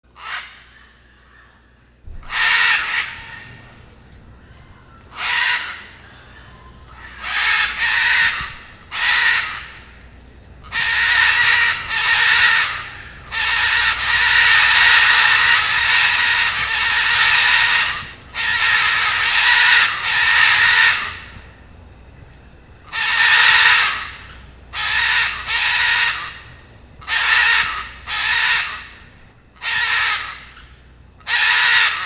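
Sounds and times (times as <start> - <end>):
macaws squawking: 2.1 - 3.7, 4.5 - 10.0, 10.6 - 21.4, 22.9 - 32.0.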